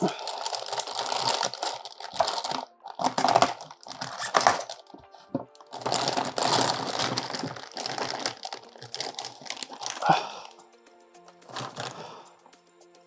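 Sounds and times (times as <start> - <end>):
plastic bags crinkling: 0.0 - 10.6, 11.4 - 12.3.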